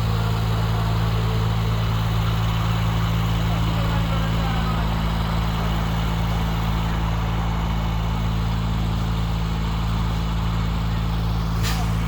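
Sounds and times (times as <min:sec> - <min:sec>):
heavy engine humming: 0:00.0 - 0:12.0.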